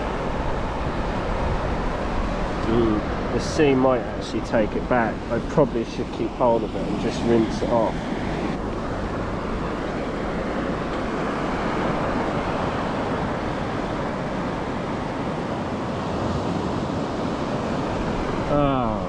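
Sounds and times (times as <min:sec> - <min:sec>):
surf washing over beach: 0:00.0 - 0:19.0.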